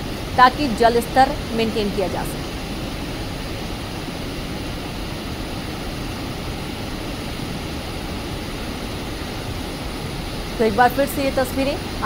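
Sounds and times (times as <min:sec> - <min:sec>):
water rushing through dam gates: 0:00.0 - 0:12.0.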